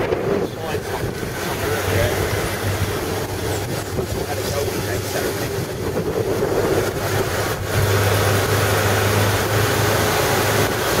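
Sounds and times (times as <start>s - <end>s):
road and wind noise: 0.0s - 11.0s
vehicle engine running: 0.0s - 11.0s.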